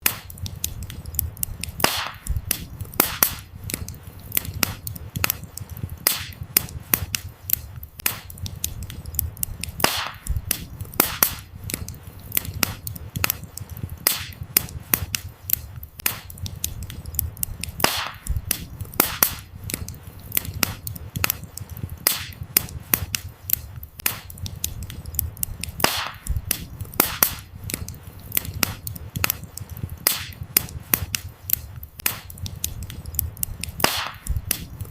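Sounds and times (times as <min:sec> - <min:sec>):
burning firewood popping: 0:00.0 - 0:34.9
low rumble of flames: 0:00.0 - 0:34.9
wood fire crackling: 0:00.0 - 0:34.9.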